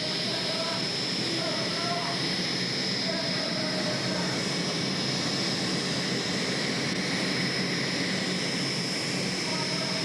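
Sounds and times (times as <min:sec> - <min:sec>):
turbine engine whining: 0:00.0 - 0:10.0.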